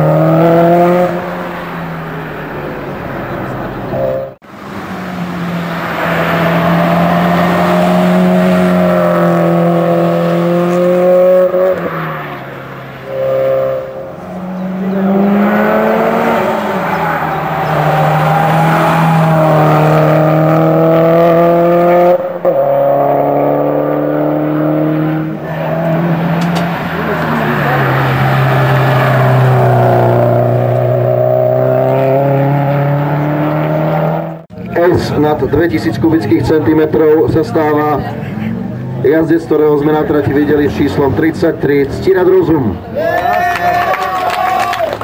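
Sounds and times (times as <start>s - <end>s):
rally car engine at full throttle: 0.0s - 43.0s.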